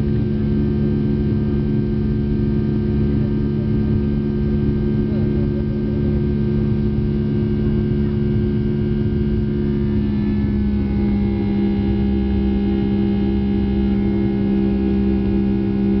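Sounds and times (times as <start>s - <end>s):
jet engines drone in cabin: 0.0s - 16.0s.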